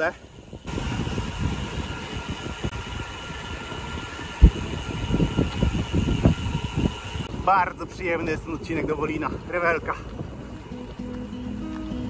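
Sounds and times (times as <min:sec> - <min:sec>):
wind buffeting microphone: 0:00.2 - 0:12.0.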